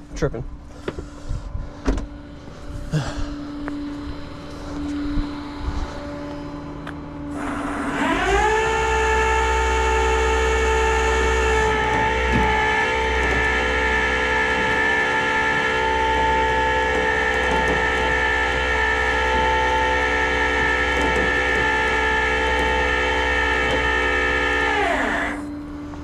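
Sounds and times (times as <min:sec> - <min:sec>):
machine whine: 0:00.0 - 0:26.0.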